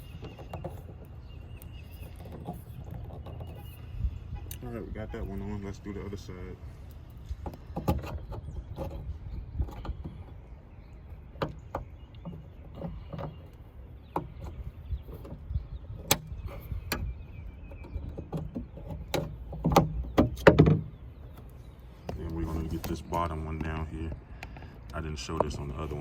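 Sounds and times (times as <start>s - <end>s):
low handling rumble: 0.0s - 26.0s.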